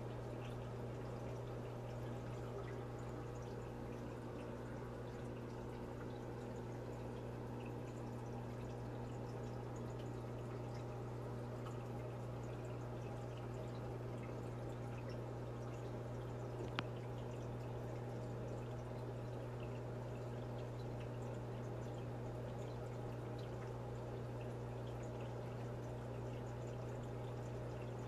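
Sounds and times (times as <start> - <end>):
aquarium filter hum: 0.0 - 28.0
water trickling and dripping: 0.0 - 28.0.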